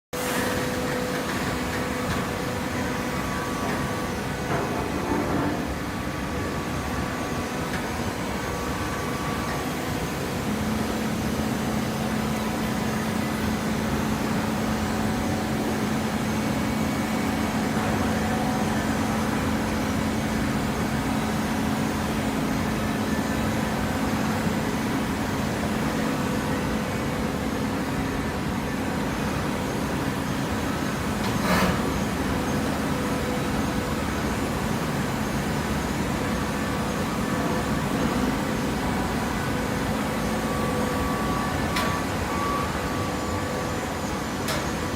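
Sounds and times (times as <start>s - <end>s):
industrial machine noise: 0.2s - 44.9s
steady electric hum: 0.2s - 44.9s.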